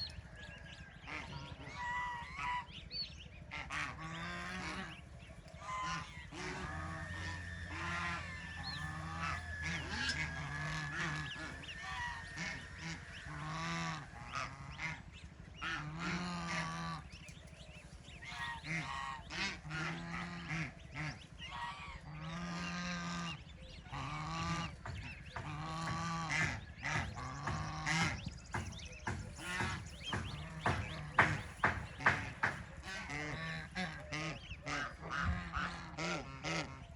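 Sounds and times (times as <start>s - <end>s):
ducks quacking: 0.0s - 36.9s.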